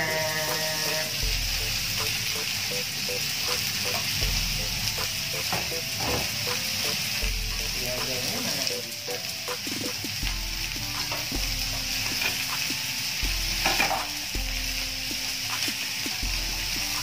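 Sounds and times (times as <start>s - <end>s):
green beans sizzling in oil: 0.0s - 17.0s.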